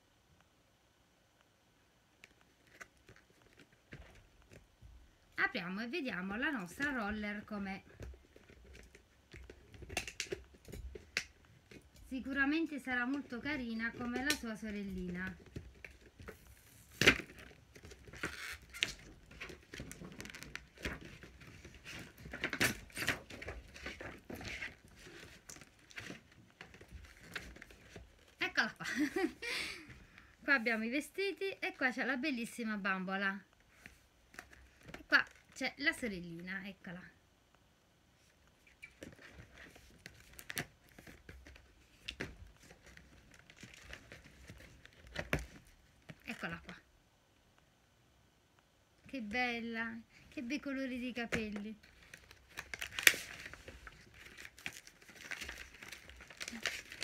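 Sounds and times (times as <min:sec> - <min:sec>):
cardboard and plastic rustling: 0:02.2 - 0:05.5, 0:06.1 - 0:30.9, 0:33.5 - 0:36.1, 0:38.2 - 0:46.8, 0:50.1 - 0:57.0.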